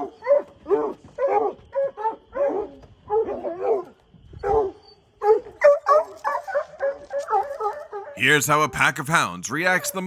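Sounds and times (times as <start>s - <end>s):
dog barking: 0.0s - 8.2s.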